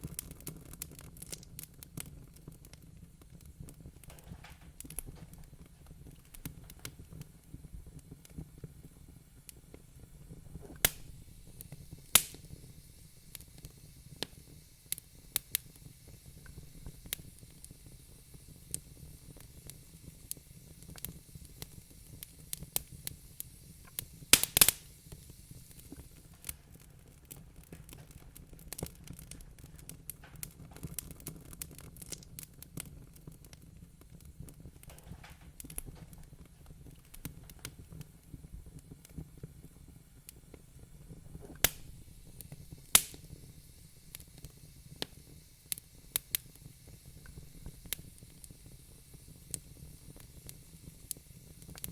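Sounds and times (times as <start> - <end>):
fire pops and snaps: 0.0 - 51.9
low rumble of flames: 0.0 - 51.9.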